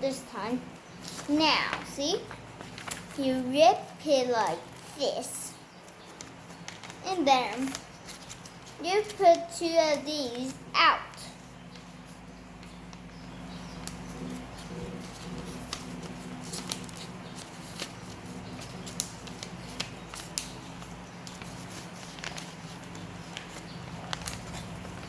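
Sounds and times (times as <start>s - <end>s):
paper rustling and crinkling: 1.0s - 4.8s, 5.8s - 13.1s, 13.8s - 25.0s.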